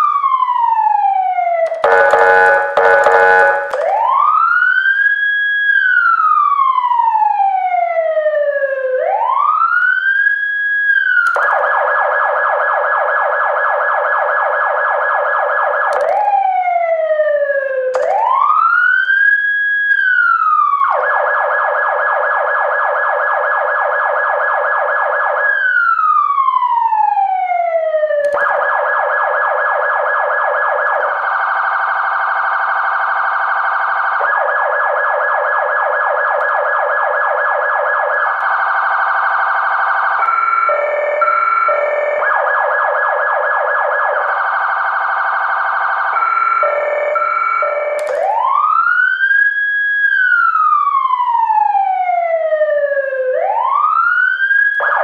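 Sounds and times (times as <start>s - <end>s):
siren rapid warbling: 0.0s - 7.5s, 11.2s - 55.0s
siren fast yelp: 0.0s - 7.9s, 11.0s - 55.0s
siren wailing: 0.0s - 55.0s.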